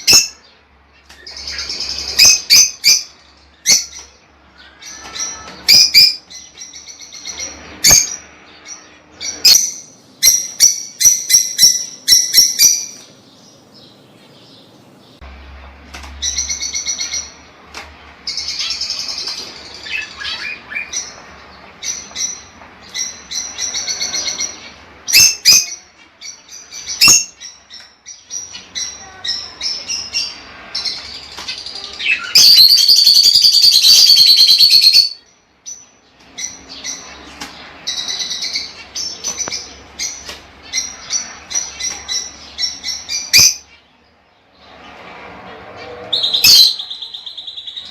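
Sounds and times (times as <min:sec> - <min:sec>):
lovebirds chirping and chattering: 0:00.0 - 0:47.9.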